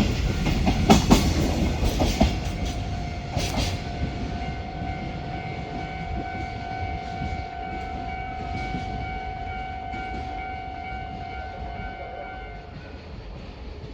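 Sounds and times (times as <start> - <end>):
freight train rumbling past: 0.0 - 13.9.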